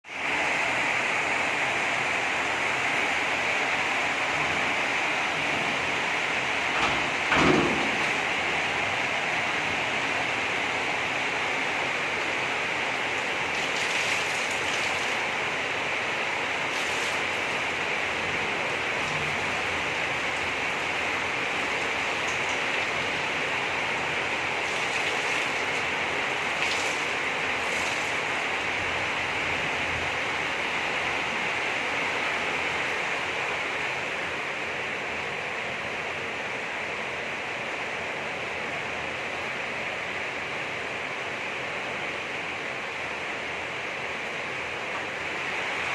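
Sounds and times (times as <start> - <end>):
heavy rain hiss: 0.0 - 45.9.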